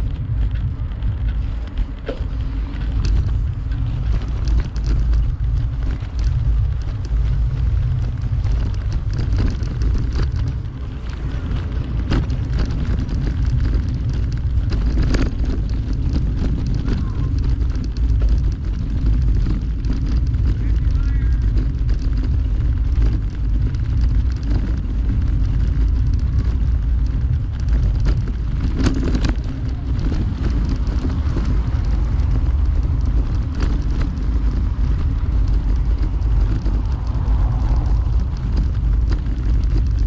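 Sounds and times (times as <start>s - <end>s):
clicks and rattles: 0.0s - 40.0s
wind buffeting microphone: 0.0s - 40.0s.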